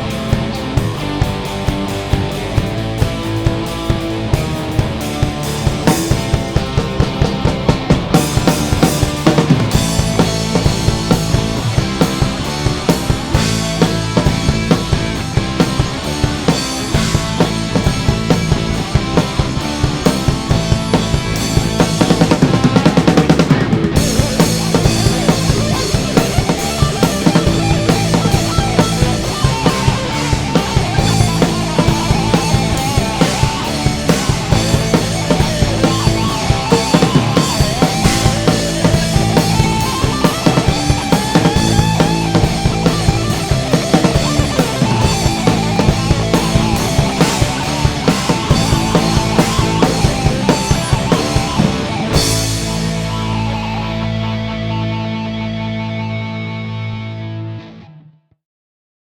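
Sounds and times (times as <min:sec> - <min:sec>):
drum kit: 0:00.0 - 0:56.2
bass guitar: 0:00.0 - 0:58.0
distorted guitar: 0:00.0 - 0:58.2.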